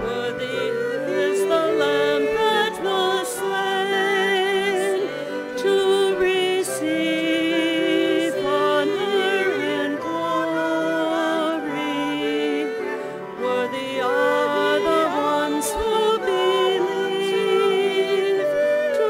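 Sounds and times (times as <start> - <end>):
instrumental accompaniment: 0.0 - 19.0
person singing with vibrato: 0.0 - 19.0.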